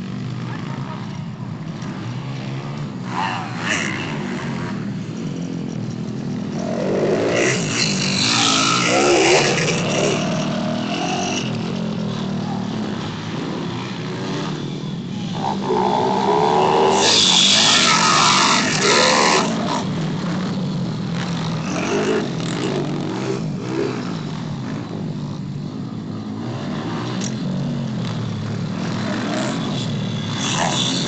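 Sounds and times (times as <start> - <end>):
pit bike engines revving: 0.0 - 31.0.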